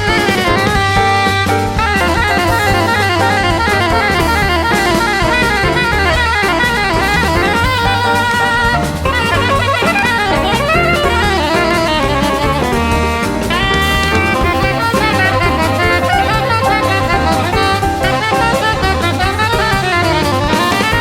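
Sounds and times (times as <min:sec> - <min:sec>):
drum kit: 0:00.0 - 0:21.0
low bass line: 0:00.0 - 0:21.0
soprano saxophone runs: 0:00.0 - 0:21.0.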